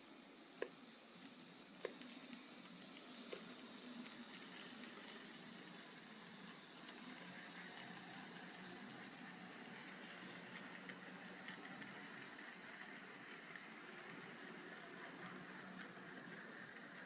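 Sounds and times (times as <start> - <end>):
model train whirring: 0.4 - 17.0.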